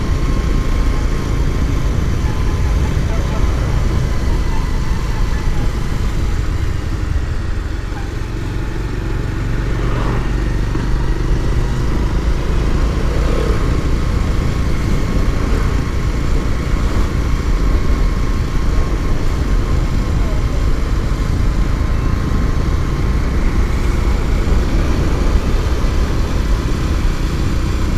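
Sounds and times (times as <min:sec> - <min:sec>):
motorcycle engine: 0:00.0 - 0:27.9
road rumble: 0:00.0 - 0:27.9.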